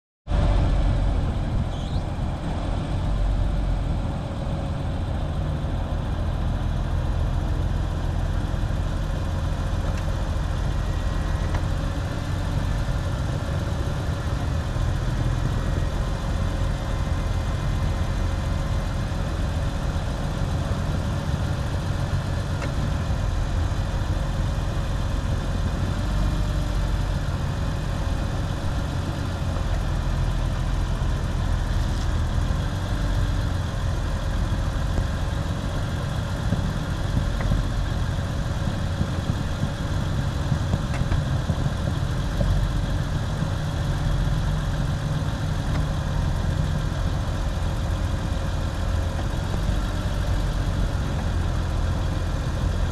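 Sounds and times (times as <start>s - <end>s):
car engine idling: 0.3s - 52.9s.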